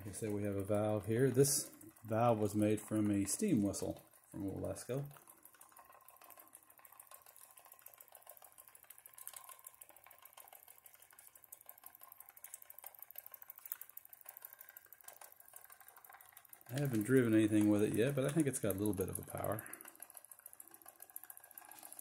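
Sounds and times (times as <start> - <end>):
steam engine rapid ticking: 0.0 - 22.0.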